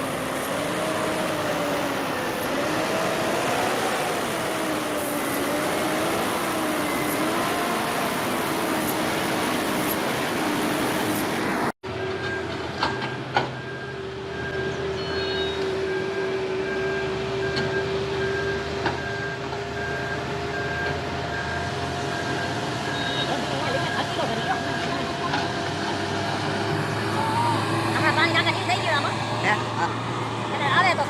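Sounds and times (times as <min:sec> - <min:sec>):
heavy vehicle noise: 0:00.0 - 0:31.0.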